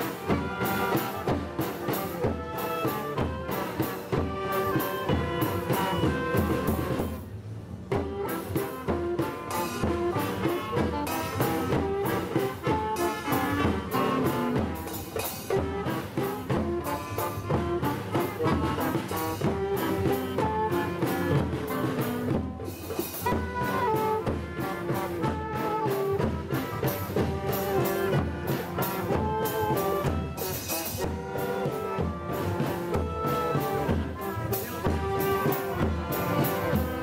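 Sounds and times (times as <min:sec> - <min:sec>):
saxophones and trombones playing: 0:00.0 - 0:07.2, 0:07.9 - 0:37.0.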